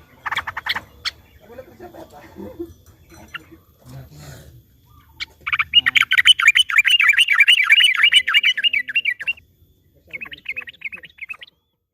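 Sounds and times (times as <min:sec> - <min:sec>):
bird chattering song: 0:00.0 - 0:04.0, 0:04.6 - 0:11.9.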